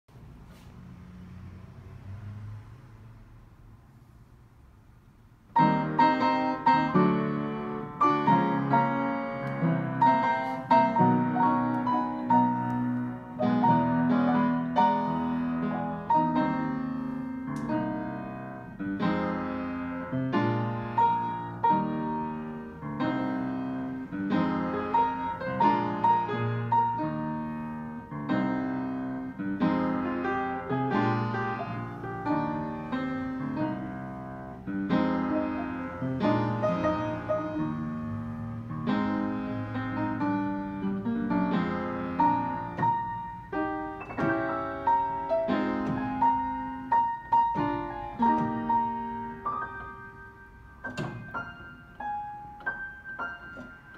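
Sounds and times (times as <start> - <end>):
upright piano playing lively piece: 5.4 - 53.9.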